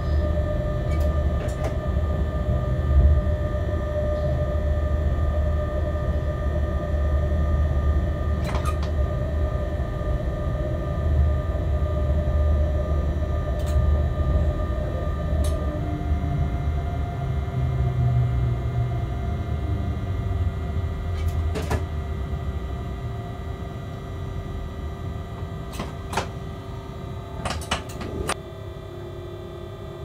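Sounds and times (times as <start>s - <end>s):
locomotive low rumble: 0.0s - 28.4s
constant whine of held tones: 0.0s - 30.0s.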